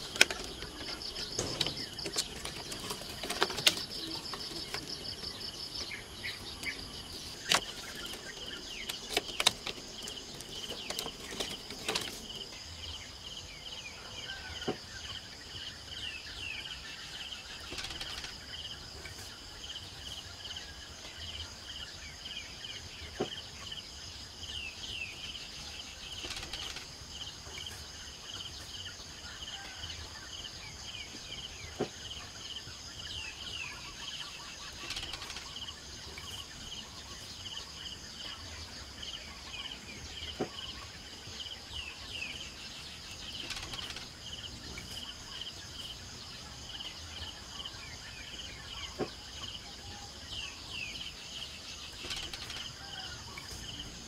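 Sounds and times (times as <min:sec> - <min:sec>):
bird chirps: 0:00.0 - 0:54.0
pulsing insect chorus: 0:00.0 - 0:54.0.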